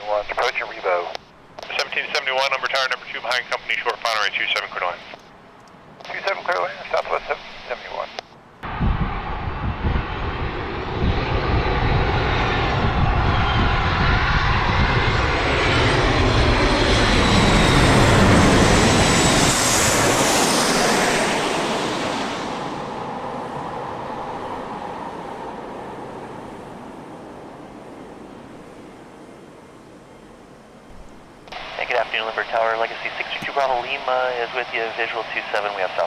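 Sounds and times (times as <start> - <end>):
jet airliner engine roar and whine: 0.0 - 36.0.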